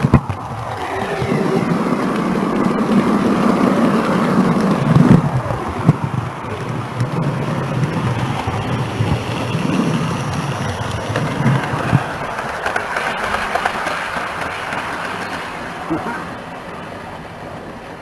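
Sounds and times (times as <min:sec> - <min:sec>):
model train rumbling on track: 0:00.0 - 0:18.0
wheels clicking on rail joints: 0:00.0 - 0:18.0.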